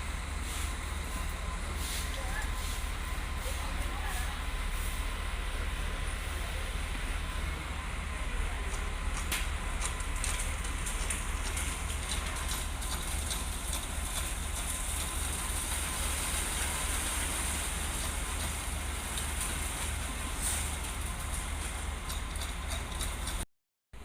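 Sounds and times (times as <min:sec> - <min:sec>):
construction machinery rumbling: 0:00.0 - 0:23.4.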